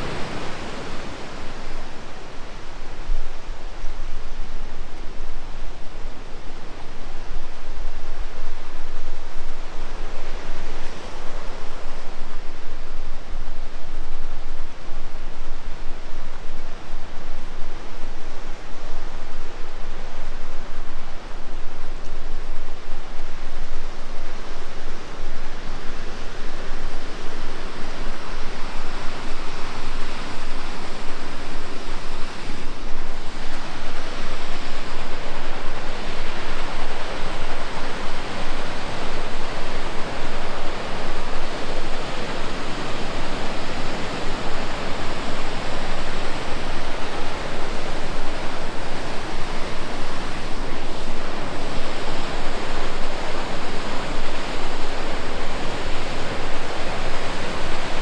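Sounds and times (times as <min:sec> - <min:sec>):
rushing whitewater: 0:00.0 - 0:14.1, 0:14.7 - 0:58.0.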